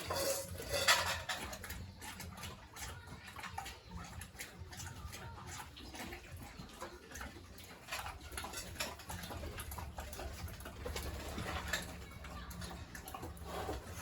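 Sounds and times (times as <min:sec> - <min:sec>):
pigs grunting: 0:00.0 - 0:14.0.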